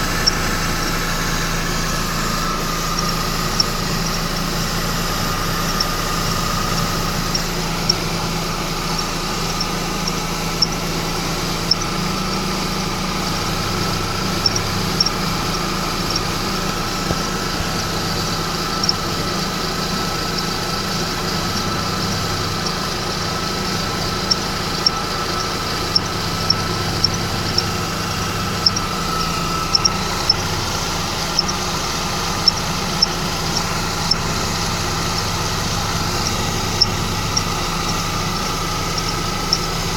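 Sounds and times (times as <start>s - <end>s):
car engine idling: 0.0s - 39.9s
high-pitched belt chirps: 0.0s - 39.9s.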